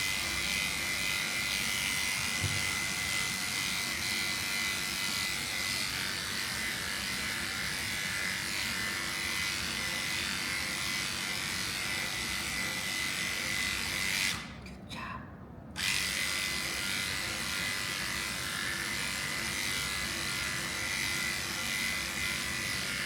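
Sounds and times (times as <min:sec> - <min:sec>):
electric clippers buzzing: 0:00.0 - 0:14.5, 0:15.8 - 0:23.0.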